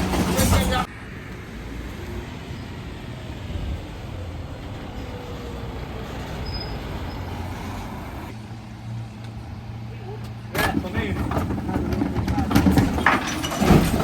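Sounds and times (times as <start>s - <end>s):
truck engine hum: 0.0s - 13.0s.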